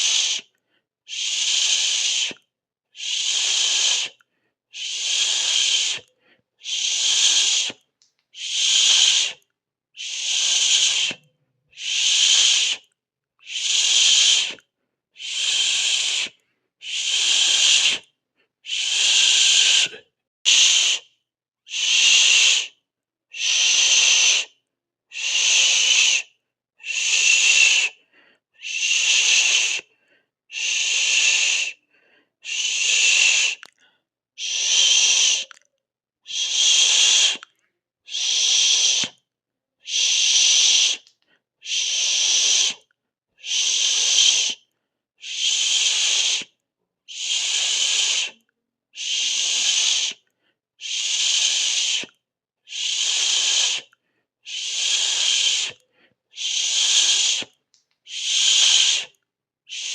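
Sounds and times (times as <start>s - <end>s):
person making shhh hiss: 0.0s - 0.5s, 1.1s - 14.6s, 15.2s - 21.1s, 21.7s - 33.8s, 34.4s - 35.6s, 36.3s - 39.2s, 39.8s - 50.2s, 50.8s - 59.9s.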